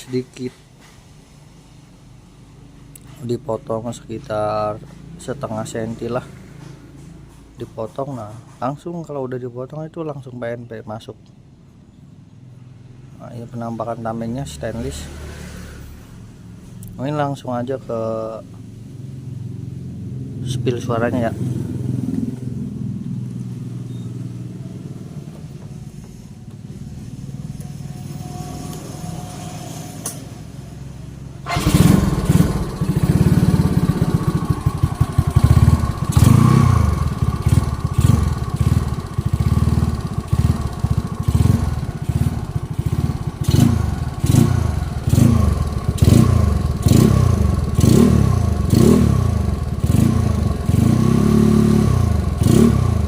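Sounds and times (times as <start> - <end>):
scooter engine idling and revving: 0.0 - 8.8, 13.8 - 17.0, 17.7 - 53.0.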